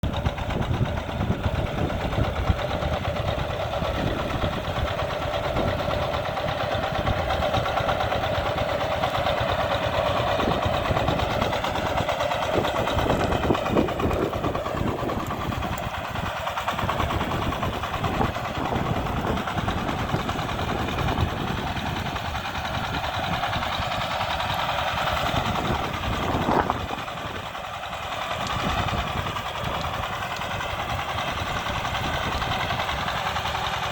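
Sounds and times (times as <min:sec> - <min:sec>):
diesel tiller engine chugging: 0:00.0 - 0:33.9.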